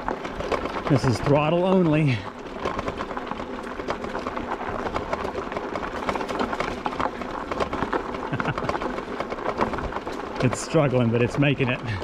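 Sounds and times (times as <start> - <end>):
tyres crunching on gravel: 0.0 - 12.0.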